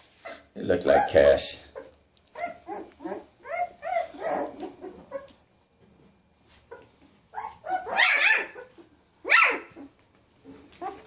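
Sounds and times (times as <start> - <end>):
puppy crying and squealing: 0.2 - 5.4, 6.6 - 11.0.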